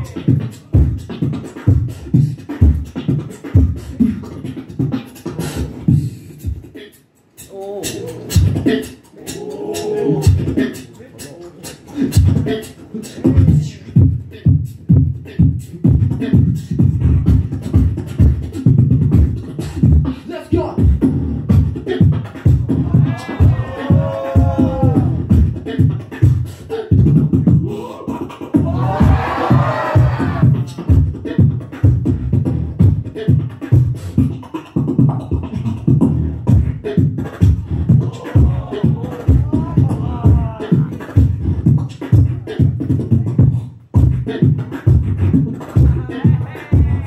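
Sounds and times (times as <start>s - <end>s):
beatboxing into a microphone: 0.0s - 47.0s.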